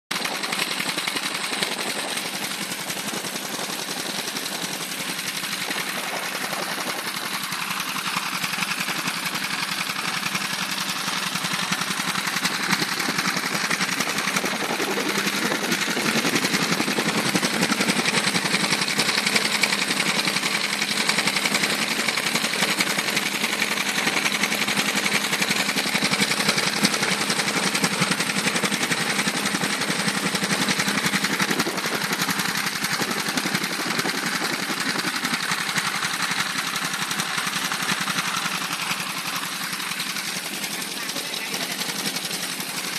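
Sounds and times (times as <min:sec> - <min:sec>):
boat engine running: 0:00.1 - 0:42.9.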